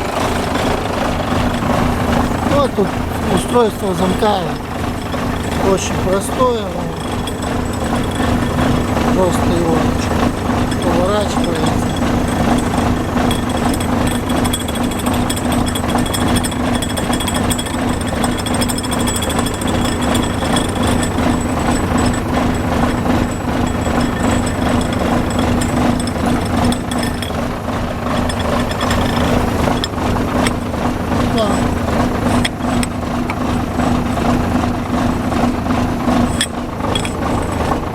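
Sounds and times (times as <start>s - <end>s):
truck diesel engine idling: 0.0s - 37.9s.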